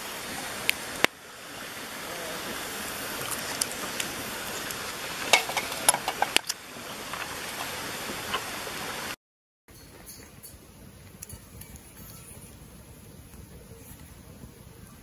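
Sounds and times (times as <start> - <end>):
campfire hissing: 0.0 - 9.2, 10.0 - 15.0.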